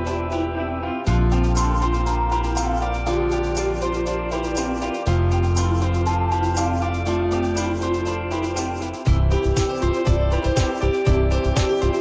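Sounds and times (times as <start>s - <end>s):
repeating percussion pattern: 1.1s - 12.0s.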